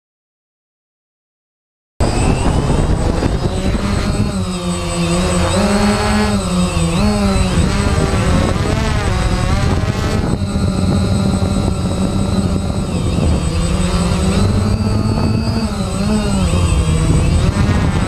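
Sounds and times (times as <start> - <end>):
drone motors and propellers whining: 2.0 - 18.0.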